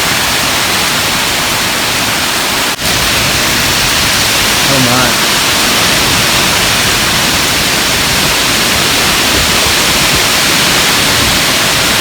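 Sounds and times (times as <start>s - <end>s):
heavy rain: 0.0s - 12.0s
wind: 0.0s - 12.0s.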